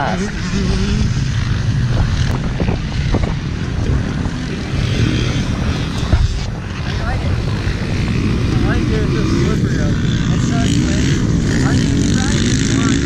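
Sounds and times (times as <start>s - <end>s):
dirt bike engines idling: 0.0s - 13.0s.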